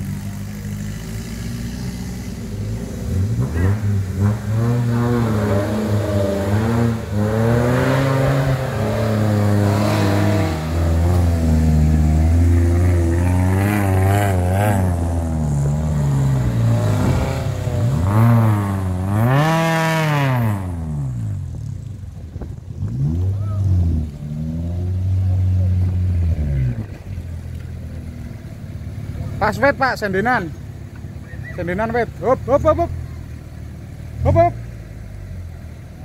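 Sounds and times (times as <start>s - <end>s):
buggy engine revving: 0.0s - 36.0s.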